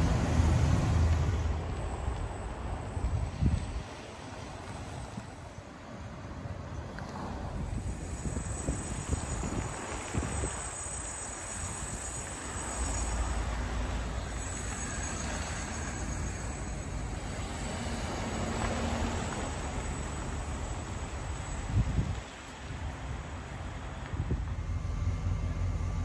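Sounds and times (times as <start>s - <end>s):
vehicles driving on snow: 0.0s - 26.0s.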